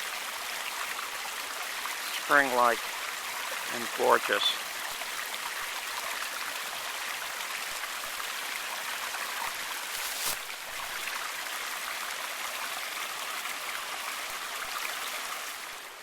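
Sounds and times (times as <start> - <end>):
stream running: 0.0 - 16.0.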